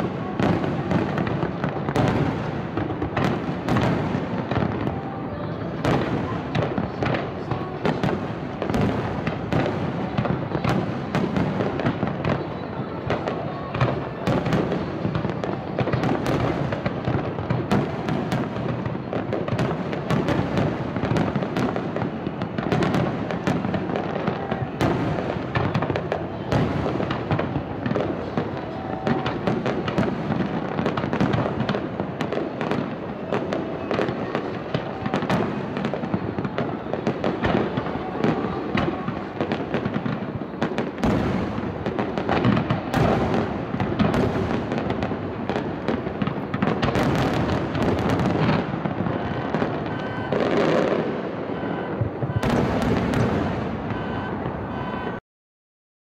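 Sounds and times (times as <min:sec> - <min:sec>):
fireworks bangs and crackling: 0:00.0 - 0:55.2.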